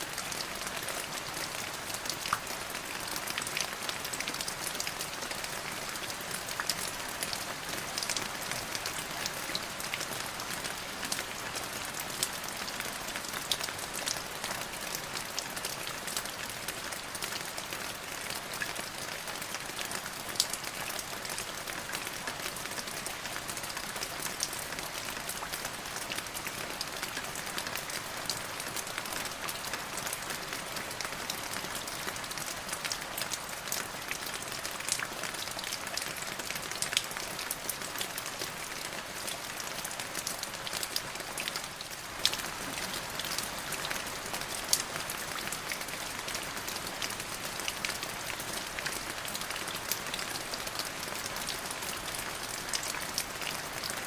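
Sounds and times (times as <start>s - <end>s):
rain downpour hiss: 0.0s - 54.0s.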